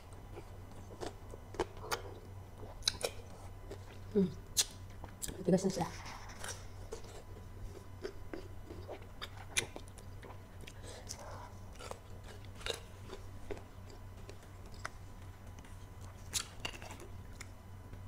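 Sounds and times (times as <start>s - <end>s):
crunchy chewing: 0.3s - 5.4s, 6.0s - 17.6s.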